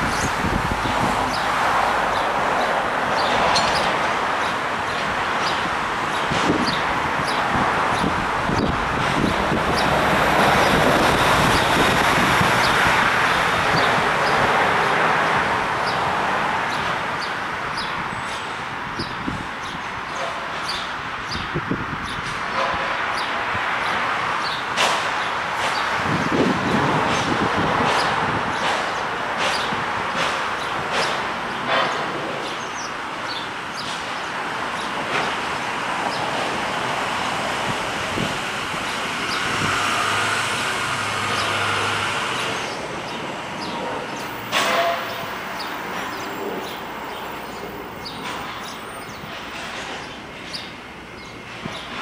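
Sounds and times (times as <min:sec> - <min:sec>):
street noise rush: 0:00.0 - 0:52.0
traffic: 0:00.0 - 0:52.0
wind: 0:00.0 - 0:52.0.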